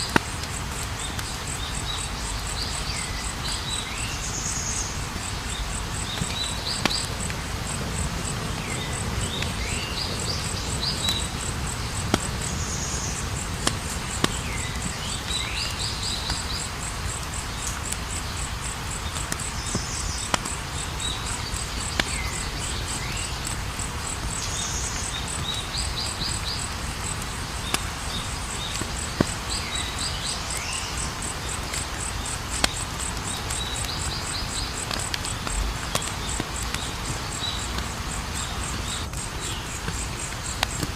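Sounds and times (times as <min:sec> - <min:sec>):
campfire crackling: 0:00.0 - 0:40.9
crickets trilling: 0:00.0 - 0:40.9.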